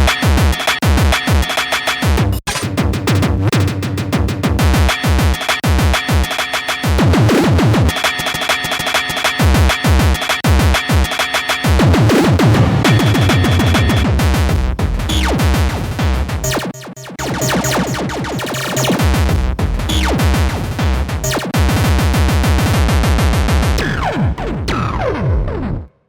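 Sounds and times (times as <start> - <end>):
electronic breakcore track: 0.0 - 25.1.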